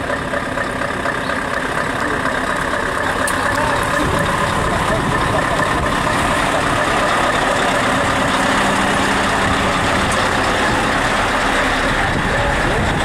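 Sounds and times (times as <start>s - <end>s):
truck diesel engine passing: 0.0s - 13.0s.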